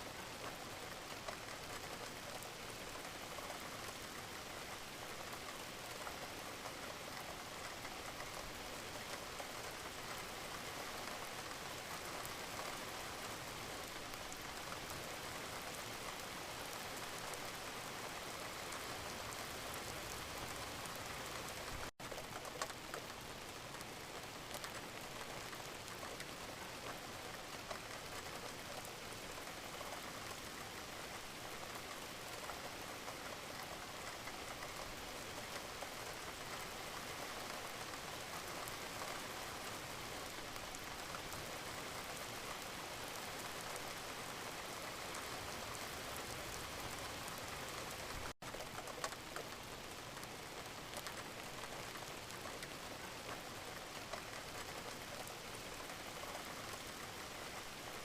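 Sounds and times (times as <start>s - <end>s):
gentle rain patter: 0.0s - 58.0s.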